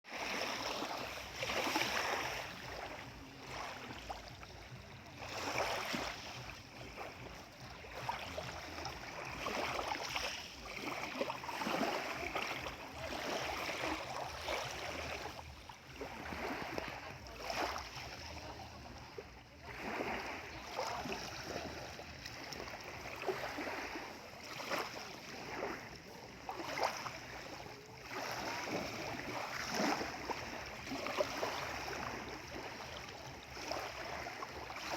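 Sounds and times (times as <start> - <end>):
lake waves lapping: 0.0 - 34.9.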